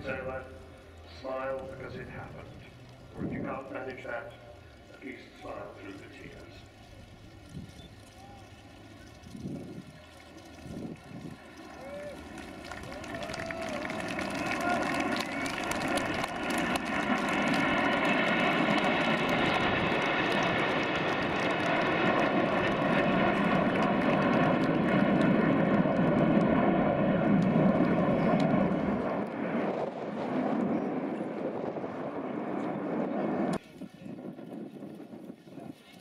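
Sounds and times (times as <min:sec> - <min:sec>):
jet engine whine: 0:00.0 - 0:36.0
jet engines rumbling: 0:00.0 - 0:36.0.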